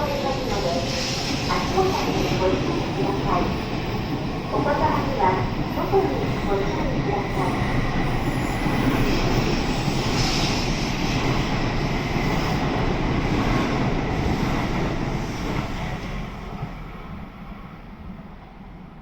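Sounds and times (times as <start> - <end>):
train rushing past: 0.0 - 18.3.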